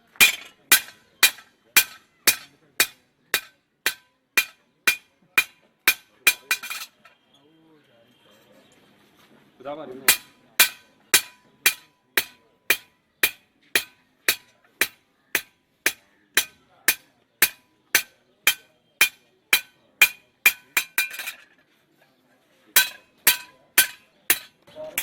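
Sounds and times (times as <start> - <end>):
hammer striking metal on anvil: 0.2 - 7.1, 10.1 - 21.4, 22.8 - 25.0.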